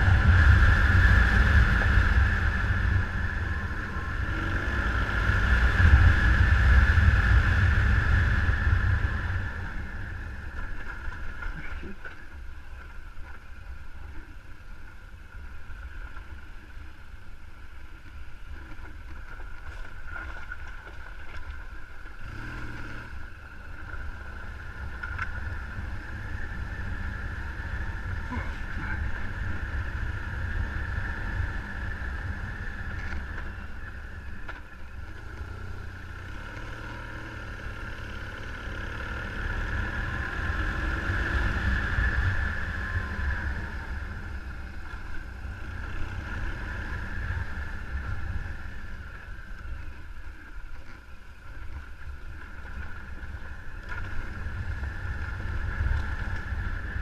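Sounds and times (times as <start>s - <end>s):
vehicle running: 0.0s - 57.0s
wind rumble on microphone: 0.0s - 57.0s.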